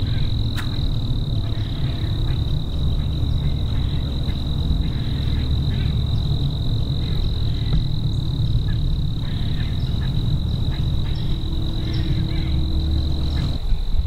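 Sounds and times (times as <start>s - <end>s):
high-pitched insect drone: 0.0s - 13.7s
low microphone rumble: 0.0s - 14.0s.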